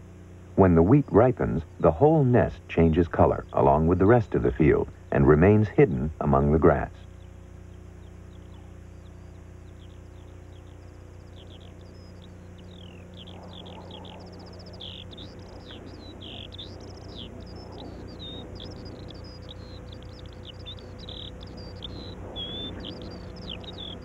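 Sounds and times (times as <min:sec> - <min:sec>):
steady low hum: 0:00.0 - 0:24.0
small birds chirping: 0:00.6 - 0:24.0.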